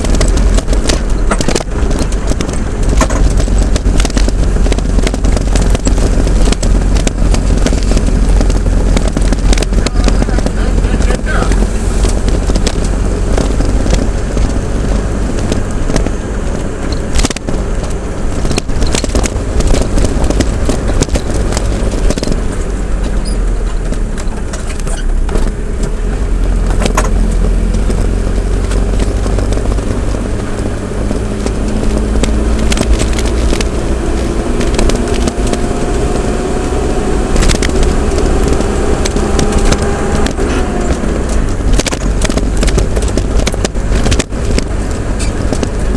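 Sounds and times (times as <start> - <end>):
clicks and rattles from bumps: 0.0 - 45.9
engine rumble: 0.0 - 45.9
road noise: 0.0 - 45.9.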